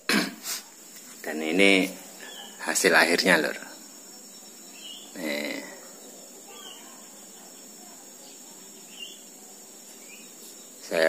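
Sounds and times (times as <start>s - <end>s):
faint high-pitched hiss: 0.0s - 11.0s.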